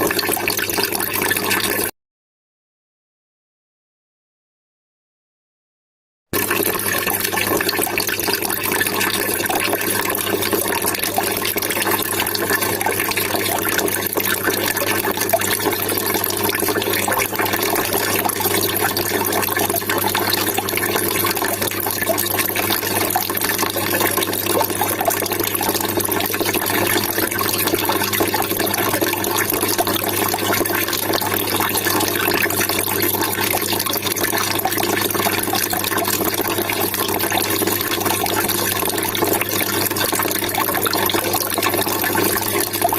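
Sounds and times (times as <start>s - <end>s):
water trickling and splashing: 6.4s - 42.9s.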